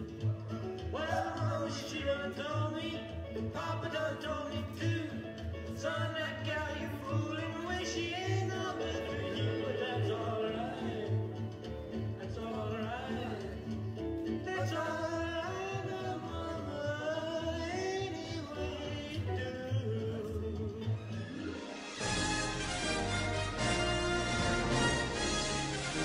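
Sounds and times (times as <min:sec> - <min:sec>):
person singing: 0:00.0 - 0:21.6.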